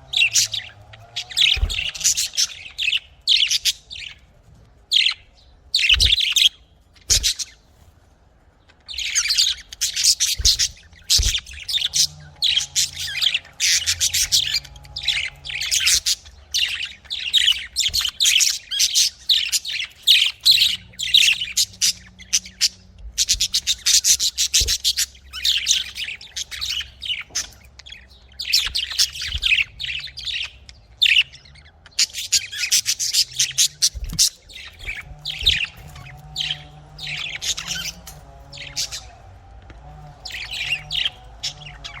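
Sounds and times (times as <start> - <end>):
budgerigars chattering and chirping: 0.0 - 42.0.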